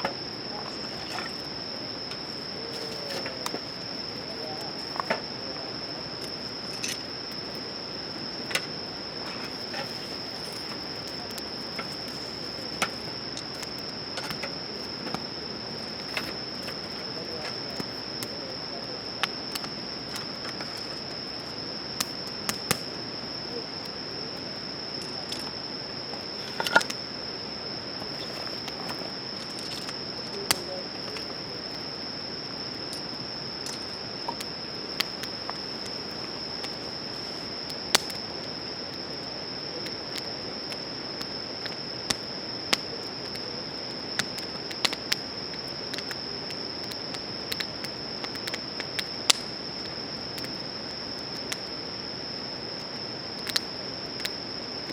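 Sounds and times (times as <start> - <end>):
campfire crackling: 0.0 - 54.9
crickets chirping: 0.0 - 54.9.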